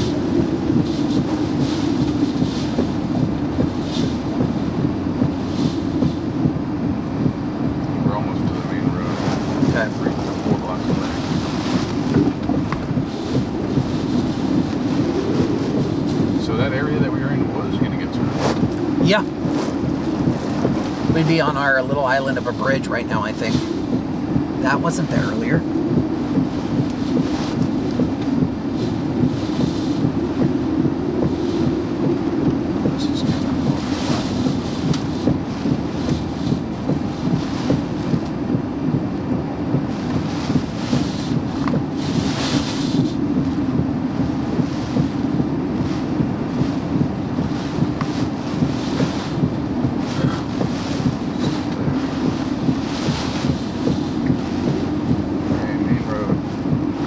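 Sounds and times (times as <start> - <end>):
gusts of wind and rain: 0.0 - 57.0
wind buffeting microphone: 0.0 - 57.0.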